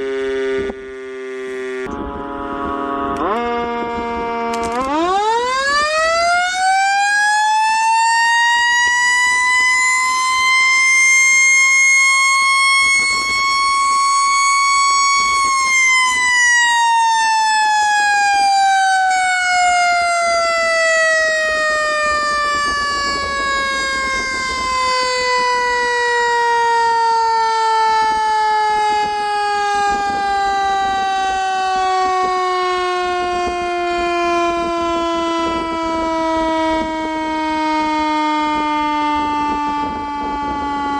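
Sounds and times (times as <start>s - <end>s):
air raid siren wailing: 0.0s - 40.9s.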